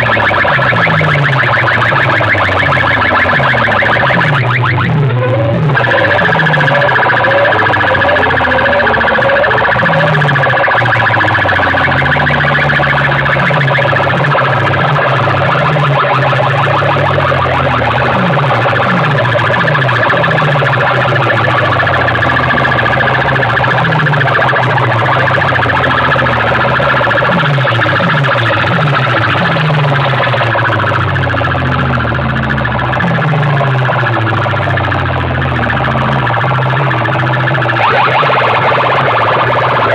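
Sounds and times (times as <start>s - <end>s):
electronic siren-like tones: 0.0s - 39.9s
heavy stepping bass notes: 0.0s - 39.9s.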